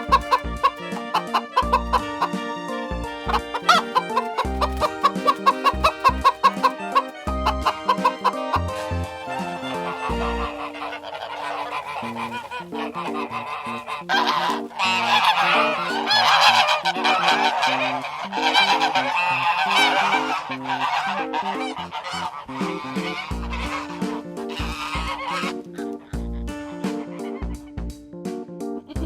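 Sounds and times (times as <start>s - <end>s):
birds honking: 0.0s - 26.0s
background music simple melody: 0.0s - 29.0s.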